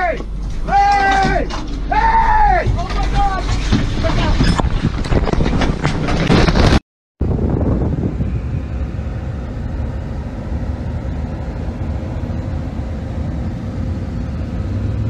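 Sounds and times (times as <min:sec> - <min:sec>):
tyres and engine rumbling: 0:00.0 - 0:15.0.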